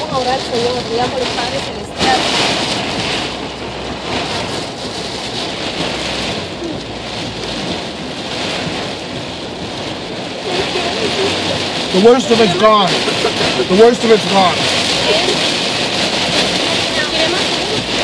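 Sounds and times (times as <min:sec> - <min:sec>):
heavy rain on car roof: 0:00.0 - 0:18.0.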